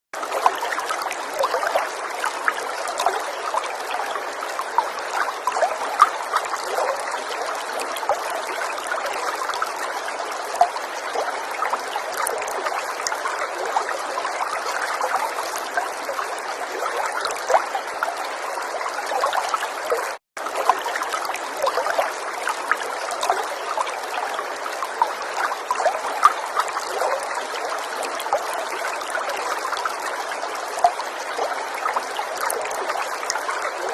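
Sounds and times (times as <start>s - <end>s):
water trickling and splashing: 0.2s - 33.9s.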